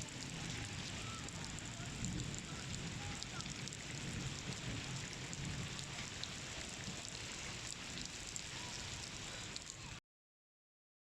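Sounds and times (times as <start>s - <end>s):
raindrops ticking on surfaces: 0.0s - 10.0s
steady rain falling: 0.0s - 10.0s.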